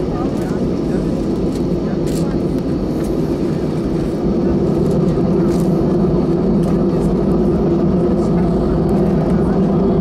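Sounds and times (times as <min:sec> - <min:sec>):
jet engine cabin drone: 0:00.0 - 0:10.0.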